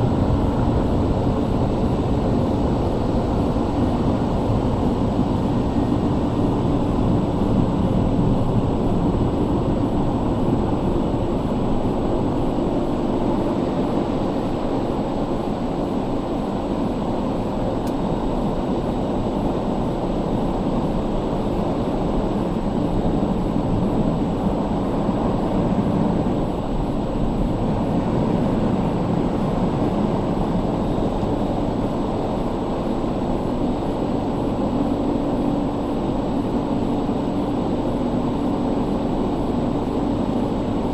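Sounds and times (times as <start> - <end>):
car wash blowers roaring: 0.0 - 40.9.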